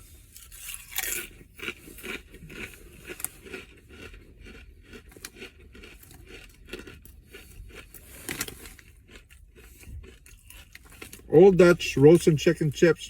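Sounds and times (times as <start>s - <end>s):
chewing crunchy chips: 0.0s - 13.0s.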